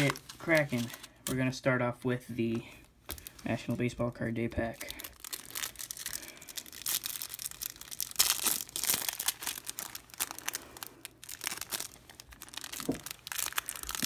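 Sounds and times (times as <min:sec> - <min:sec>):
plastic wrapper tearing and crinkling: 0:00.0 - 0:01.4, 0:02.8 - 0:03.8, 0:04.6 - 0:14.0.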